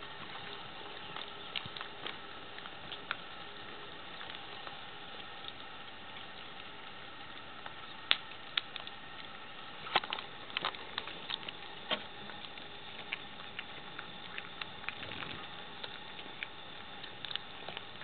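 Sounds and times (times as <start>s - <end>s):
cat chewing bone: 0.0s - 18.0s
steady background hiss: 0.0s - 18.0s.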